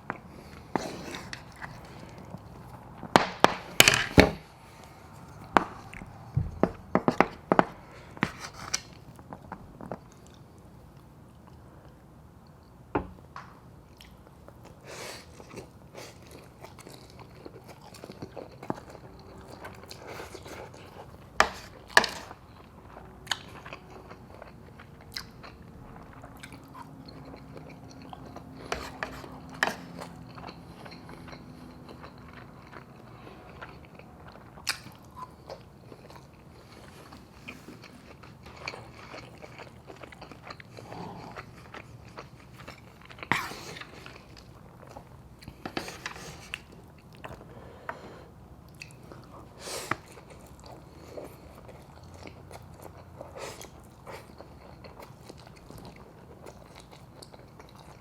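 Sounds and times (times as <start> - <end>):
chewing and crunching: 0.0 - 3.2, 4.6 - 12.7, 13.8 - 48.0, 48.6 - 58.0.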